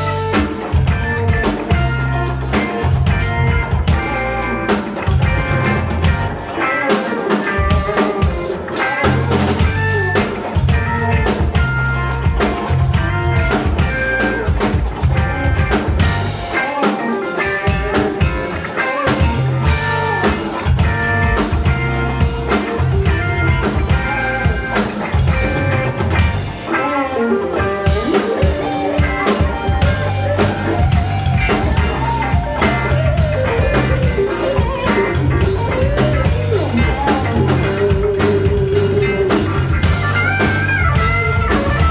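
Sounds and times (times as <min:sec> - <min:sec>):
bass: 0:00.0 - 0:41.9
drum kit beat: 0:00.0 - 0:41.9
electric guitar: 0:00.0 - 0:41.9.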